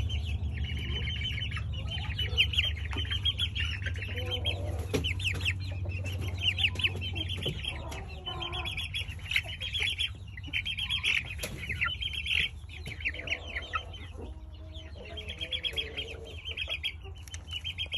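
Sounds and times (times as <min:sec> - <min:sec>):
chicks peeping: 0:00.0 - 0:17.9
low trilling clucks: 0:00.0 - 0:17.9.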